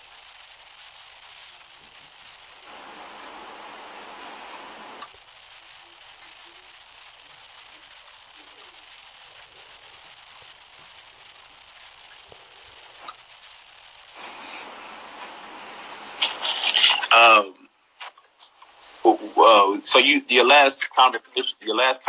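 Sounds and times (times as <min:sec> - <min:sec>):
faint clicks and crackles: 0:00.0 - 0:19.1
steady hiss: 0:00.0 - 0:22.0.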